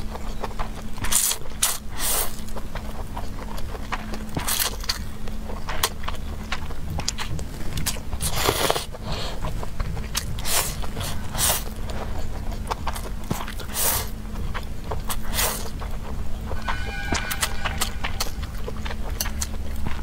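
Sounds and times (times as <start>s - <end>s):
chewing: 0.0s - 16.6s, 17.7s - 20.0s.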